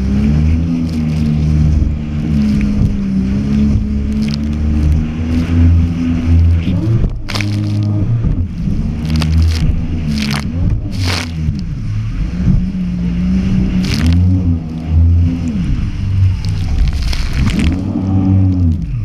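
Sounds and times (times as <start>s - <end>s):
jet ski engine revving: 0.0s - 19.0s
water spray splashing: 0.0s - 19.0s.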